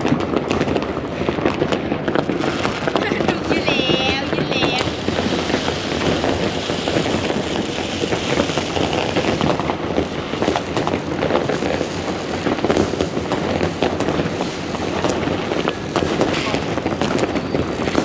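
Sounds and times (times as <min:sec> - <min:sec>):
fireworks and firecrackers crackling: 0:00.0 - 0:18.0.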